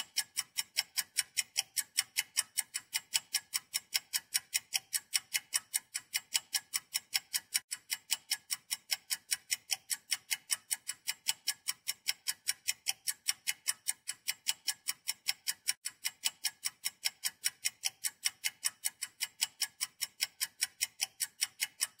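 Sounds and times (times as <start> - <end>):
fast steady ticking: 0.0 - 22.0.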